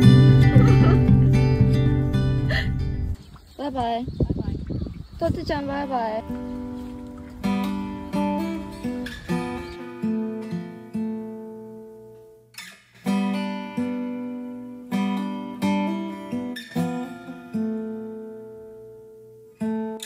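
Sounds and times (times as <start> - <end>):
acoustic guitar strumming chords: 0.0 - 3.2, 5.5 - 20.0.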